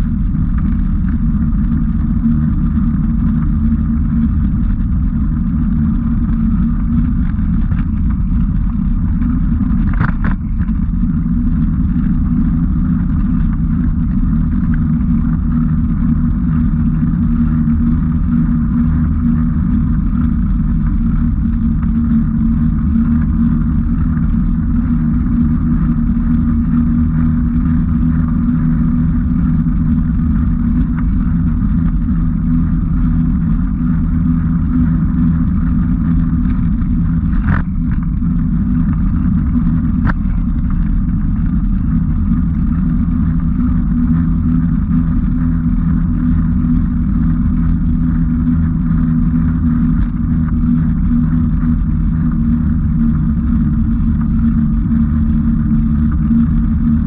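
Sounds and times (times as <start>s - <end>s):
vehicle rumbling on gravel: 0.0s - 57.0s.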